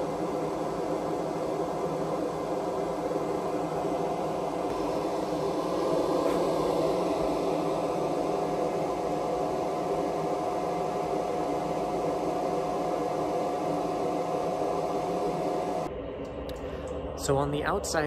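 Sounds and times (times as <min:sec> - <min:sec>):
duct fan air rush: 0:00.0 - 0:18.0
fan hum: 0:00.0 - 0:18.0.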